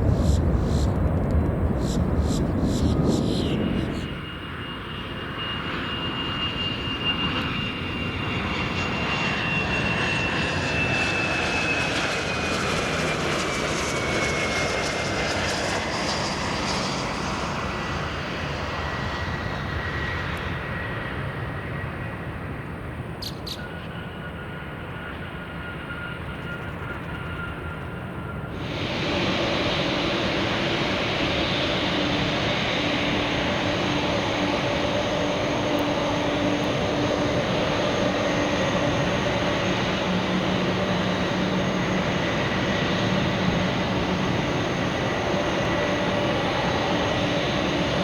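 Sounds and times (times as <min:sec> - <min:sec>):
jet airliner engines passing: 0:00.0 - 0:48.0.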